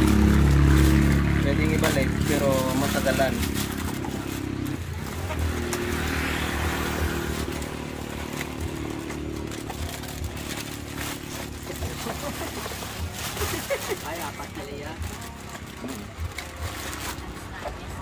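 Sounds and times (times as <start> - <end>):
plastic wrapping crinkling and tearing: 0.0 - 18.0.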